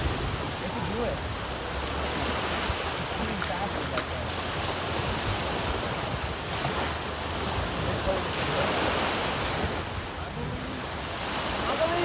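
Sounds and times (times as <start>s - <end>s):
surf breaking on sandy beach: 0.0s - 12.0s
wind rumbling on microphone: 0.0s - 12.0s.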